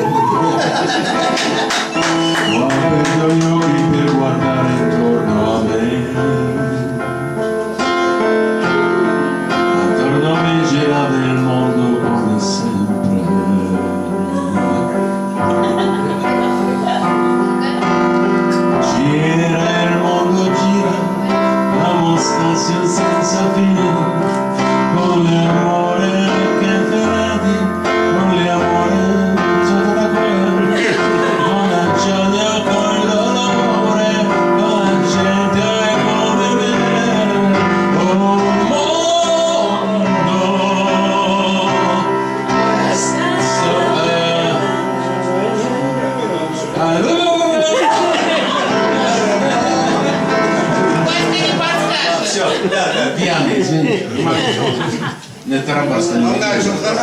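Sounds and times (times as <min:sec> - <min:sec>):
man singing: 0:00.0 - 0:54.8
electronic keyboard playing chords: 0:00.0 - 0:57.0.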